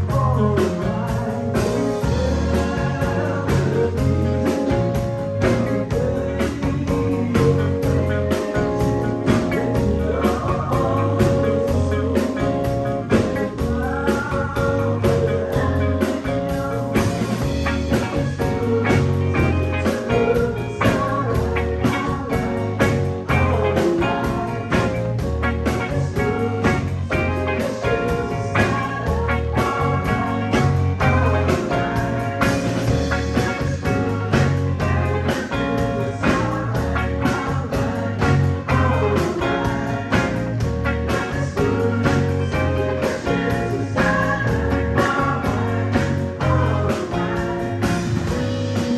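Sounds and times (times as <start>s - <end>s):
bass line: 0.0s - 48.9s
drums: 0.0s - 48.9s
electric guitar: 0.0s - 48.9s
live blues-rock band: 0.0s - 48.9s.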